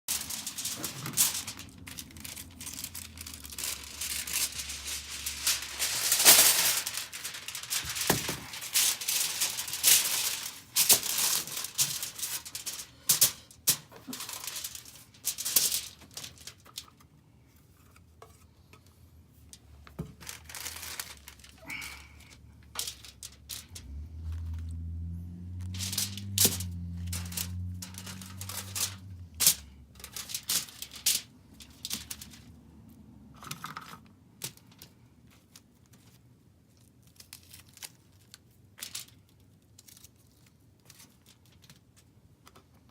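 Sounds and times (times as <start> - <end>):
crunching and crinkling while eating: 0.1 - 18.6, 20.1 - 42.9.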